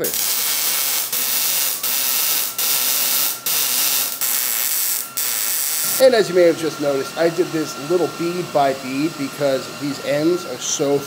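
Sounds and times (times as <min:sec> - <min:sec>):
welder arc short welds: 0:00.0 - 0:11.0.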